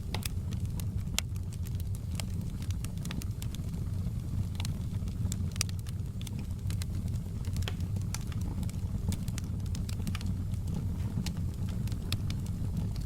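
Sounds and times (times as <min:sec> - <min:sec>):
low fire rumble: 0:00.0 - 0:13.0
wood fire crackling: 0:00.0 - 0:13.0.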